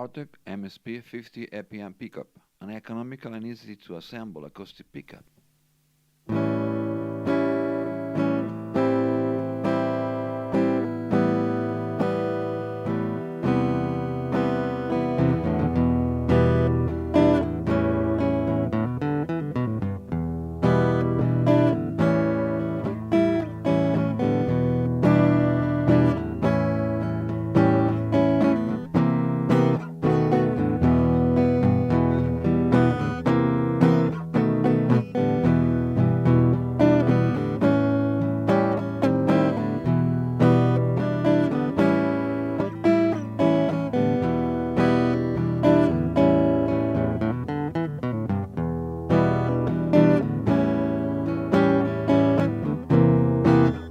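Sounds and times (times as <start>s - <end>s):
acoustic guitar strumming chords: 6.2s - 53.9s.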